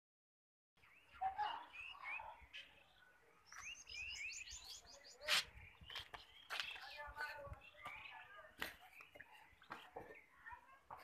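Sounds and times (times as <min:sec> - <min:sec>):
birds chirping: 0:00.8 - 0:11.0.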